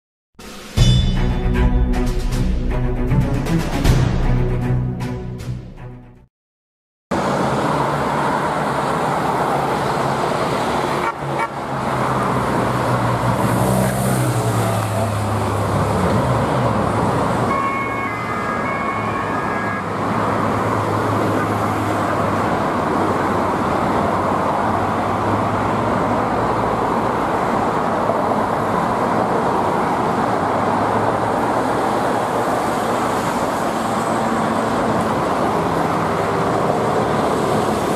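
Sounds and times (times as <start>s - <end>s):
street traffic noise: 7.1s - 37.9s
motorcycle engines: 7.2s - 37.9s.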